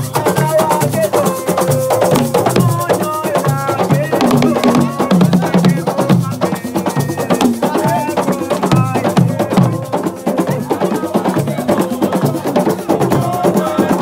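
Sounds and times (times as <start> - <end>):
drum ensemble playing fast rhythm: 0.0 - 14.0
voices singing or calling: 0.0 - 14.0.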